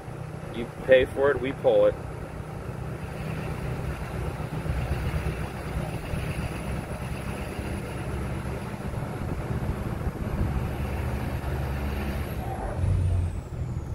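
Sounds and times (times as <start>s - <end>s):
diesel truck engine running: 0.0s - 13.9s.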